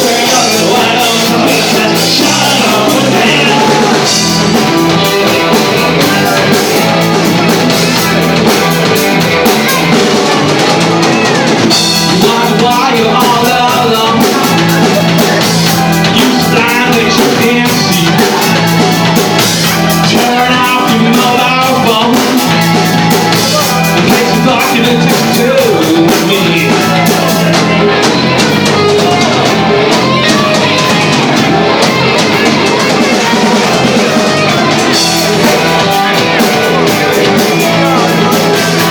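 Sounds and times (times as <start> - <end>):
bass guitar: 0.0 - 38.9
drum kit: 0.0 - 38.9
electric guitar: 0.0 - 38.9
person singing: 0.0 - 38.9.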